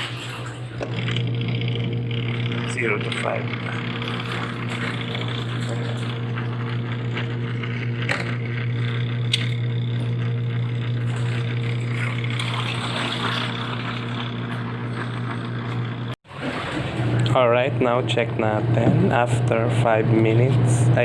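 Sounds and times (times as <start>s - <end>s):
spin-dryer motor humming: 0.0s - 21.0s.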